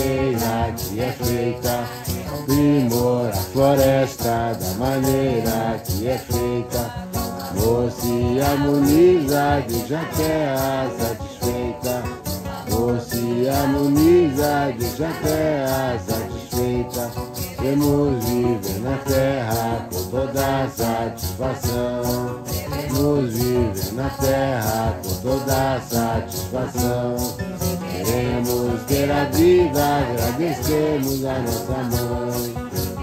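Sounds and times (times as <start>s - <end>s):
group singing a hymn: 0.0s - 33.0s
maracas shaking: 0.0s - 33.0s
strummed acoustic guitars: 0.0s - 33.0s.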